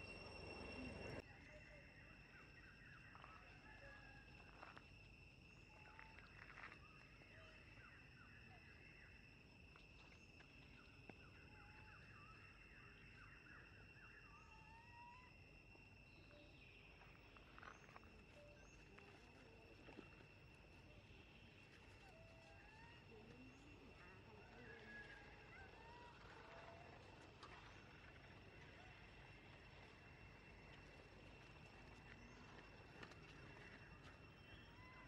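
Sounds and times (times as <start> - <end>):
high-pitched insect drone: 0.0 - 35.0.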